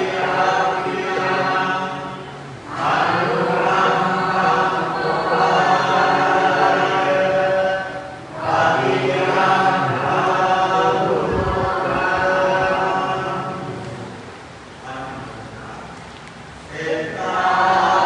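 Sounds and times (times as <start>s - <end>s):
monks chanting in unison: 0.0s - 14.2s, 16.7s - 18.0s.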